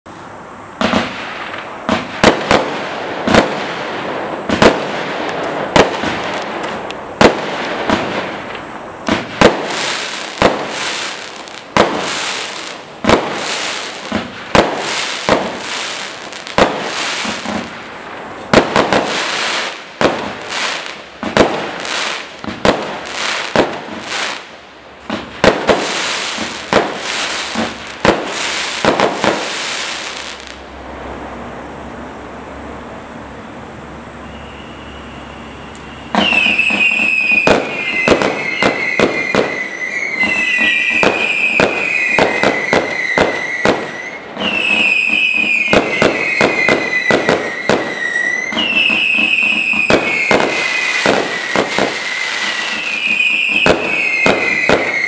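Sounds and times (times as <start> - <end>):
firework shots bursting: 0.8 - 30.6, 36.0 - 55.0
firework crackling fizz: 0.8 - 31.6, 34.3 - 55.0.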